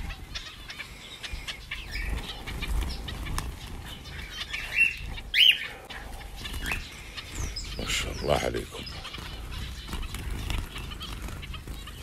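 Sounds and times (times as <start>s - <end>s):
finch wings whirring: 0.0s - 12.0s
finches chirping: 0.0s - 12.0s.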